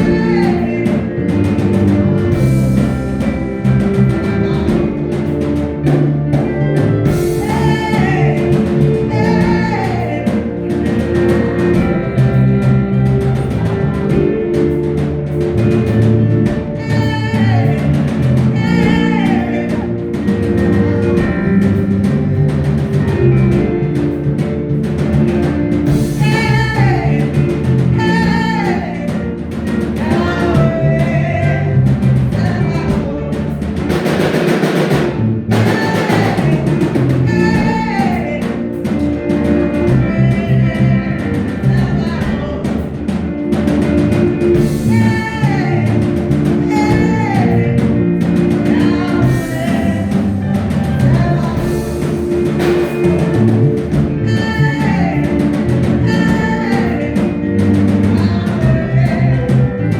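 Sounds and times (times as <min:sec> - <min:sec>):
drum beat: 0:00.0 - 0:59.9
person singing: 0:00.0 - 0:59.9
worship band music: 0:00.0 - 0:59.9.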